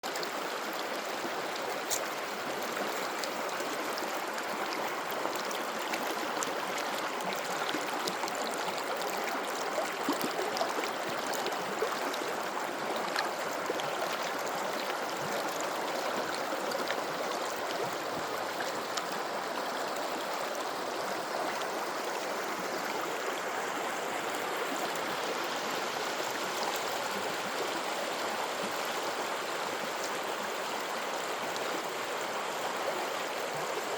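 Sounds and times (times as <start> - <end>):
faint water splashes: 0.0 - 31.0
river flowing: 0.0 - 33.9.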